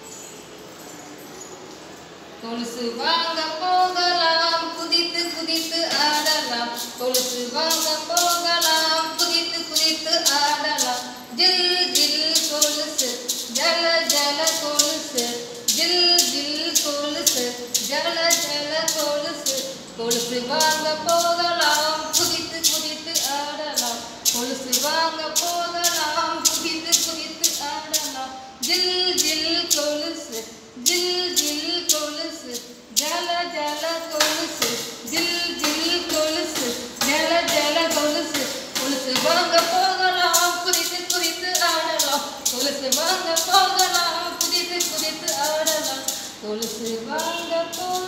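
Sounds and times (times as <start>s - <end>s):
woman singing unaccompanied: 2.4s - 48.0s.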